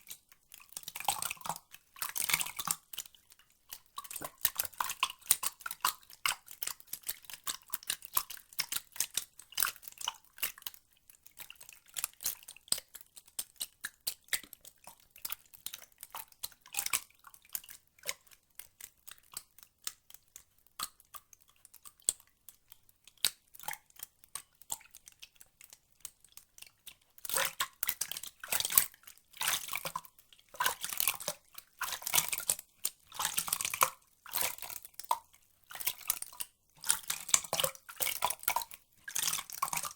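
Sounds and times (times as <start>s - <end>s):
water clicks and drips: 0.0s - 39.9s.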